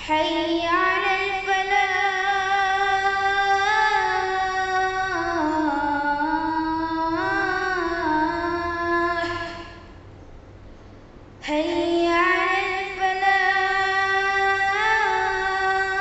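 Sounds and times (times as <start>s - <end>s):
boy chanting call to prayer: 0.0s - 10.0s, 11.4s - 16.0s.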